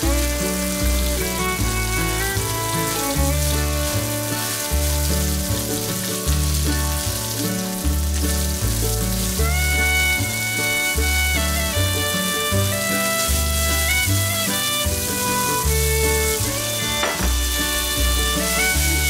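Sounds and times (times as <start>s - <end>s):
background music with bass line: 0.0s - 19.0s
vegetables sizzling in oil: 0.0s - 19.0s.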